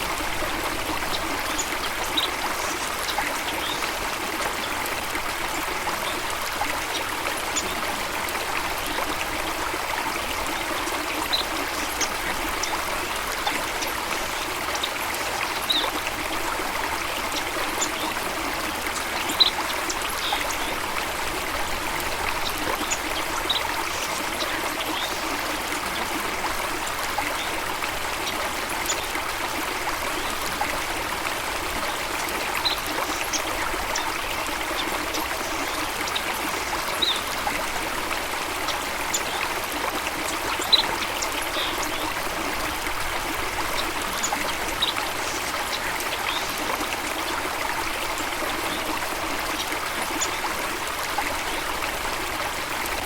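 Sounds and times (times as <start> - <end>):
stream trickling and splashing: 0.0 - 53.0.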